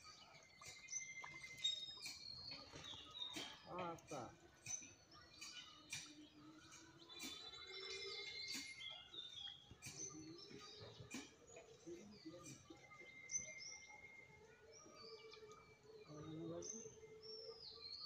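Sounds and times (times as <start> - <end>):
faint bird chirps and whistles: 0.0 - 18.0.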